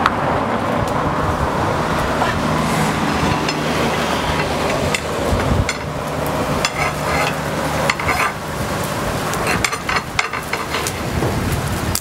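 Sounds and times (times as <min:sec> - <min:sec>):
steady sizzling hiss: 0:01.2 - 0:12.0.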